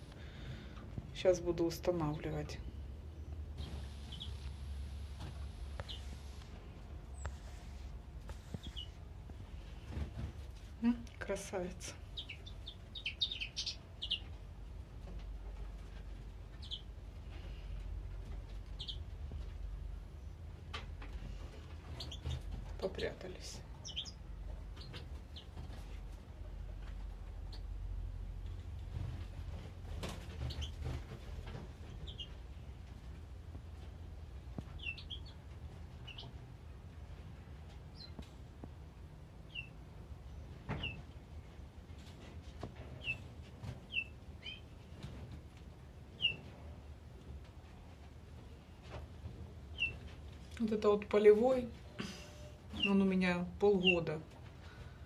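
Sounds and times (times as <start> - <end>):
low steady hum: 0.0 - 55.0
songbirds chirping: 0.1 - 28.9, 30.2 - 52.0, 52.6 - 55.0.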